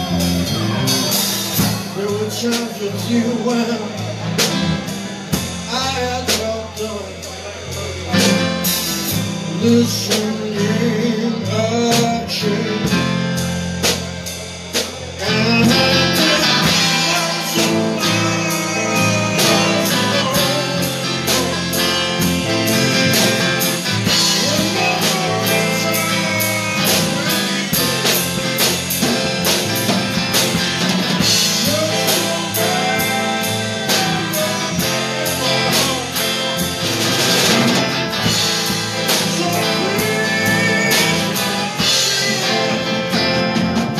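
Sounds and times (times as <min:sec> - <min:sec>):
live blues band playing: 0:00.0 - 0:43.9.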